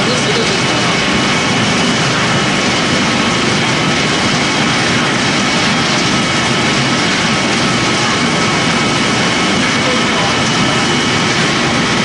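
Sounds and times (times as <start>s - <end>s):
pellet machinery running: 0.0s - 12.0s.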